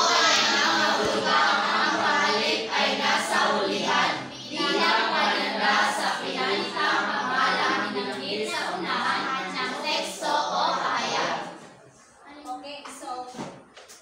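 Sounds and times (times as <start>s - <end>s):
students reciting in unison: 0.0s - 11.9s.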